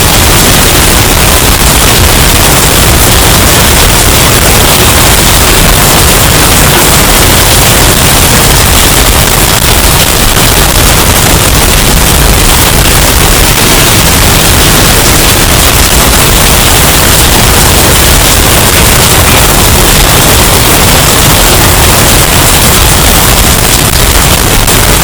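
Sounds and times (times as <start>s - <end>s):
distorted storm wind rush: 0.0s - 25.0s.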